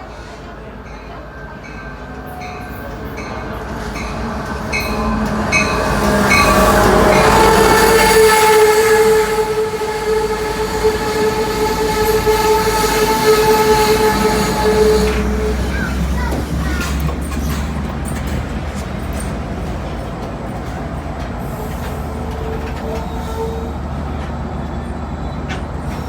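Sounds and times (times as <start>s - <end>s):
passenger train passing: 0.0s - 26.0s.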